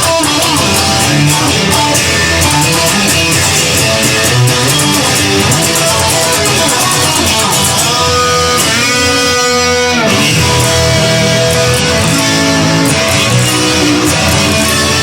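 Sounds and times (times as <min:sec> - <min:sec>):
instrumental guitar rock music: 0:00.0 - 0:15.0.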